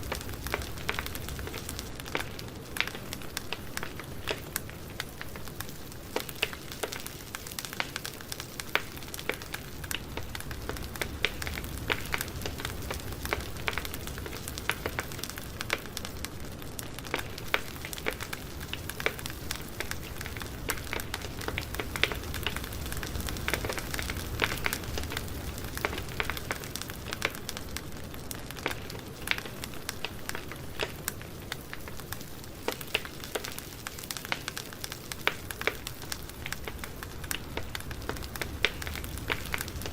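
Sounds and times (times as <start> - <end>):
campfire burning: 0.0 - 39.9
crackles and pops of burning wood: 0.0 - 39.9
low rumble of flames: 0.0 - 39.9.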